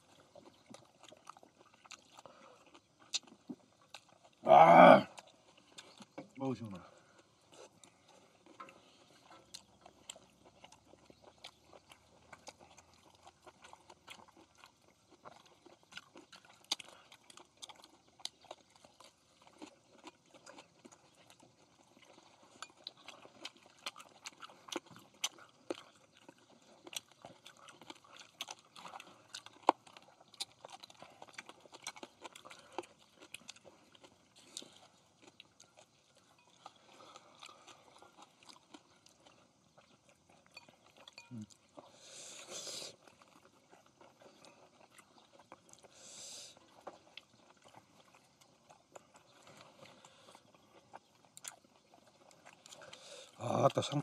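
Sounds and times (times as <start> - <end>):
people chewing: 0.0 - 54.0.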